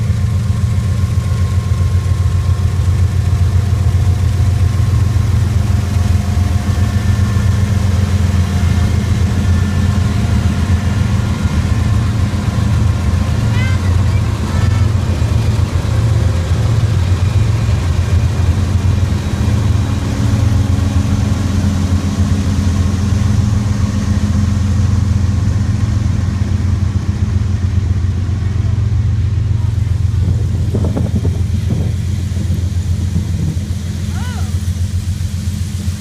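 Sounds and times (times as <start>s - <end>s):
diesel locomotive engine drone: 0.0s - 36.0s
hopper cars rolling on rails: 0.0s - 36.0s.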